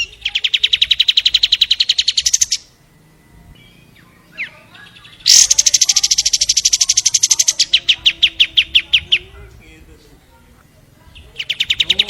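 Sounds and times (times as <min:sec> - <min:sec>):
bird singing rapid trills: 0:00.0 - 0:09.5, 0:11.0 - 0:12.0.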